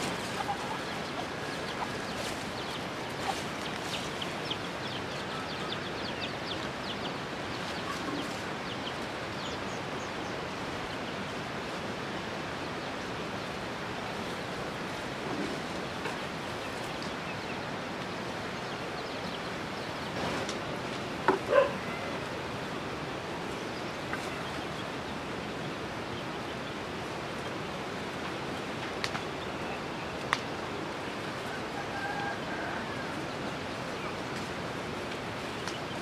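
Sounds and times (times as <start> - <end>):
birds chirping: 0.0 - 36.0
rushing outdoor background noise: 0.0 - 36.0.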